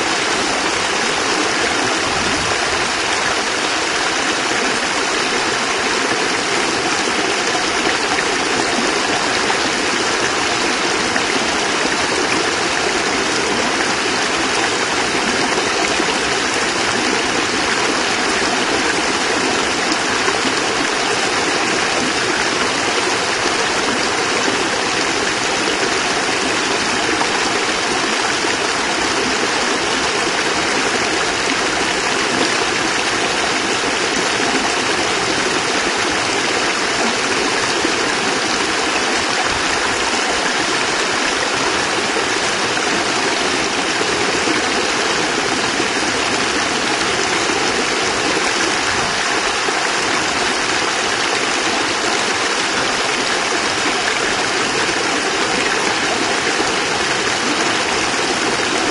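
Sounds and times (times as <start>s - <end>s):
water splashing over rocks: 0.0s - 58.9s.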